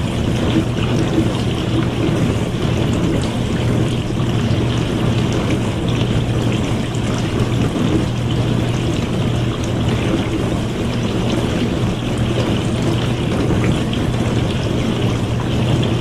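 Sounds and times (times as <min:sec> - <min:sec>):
dishwasher motor hum: 0:00.0 - 0:16.0
water spraying and splashing: 0:00.0 - 0:16.0.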